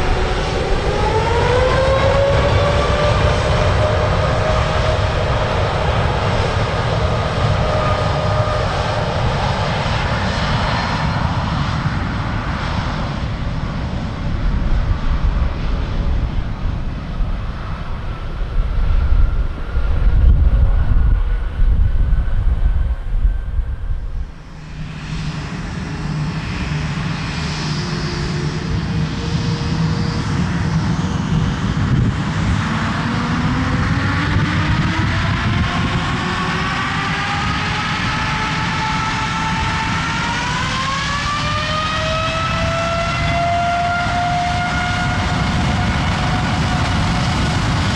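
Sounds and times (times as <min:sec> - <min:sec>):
faint engine whine: 0:00.0 - 0:47.9
jet engines at takeoff thrust: 0:00.0 - 0:47.9.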